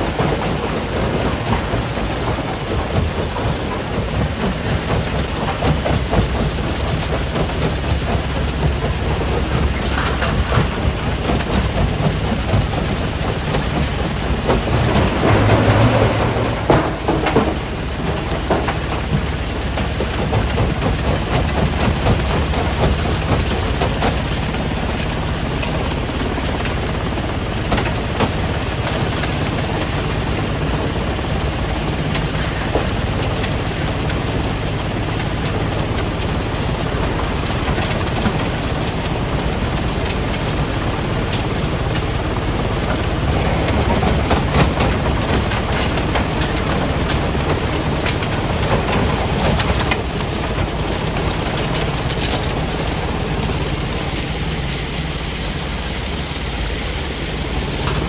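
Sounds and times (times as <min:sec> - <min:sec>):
low diesel engine hum: 0:00.0 - 0:58.0
rattle and clatter of rock: 0:00.0 - 0:58.0.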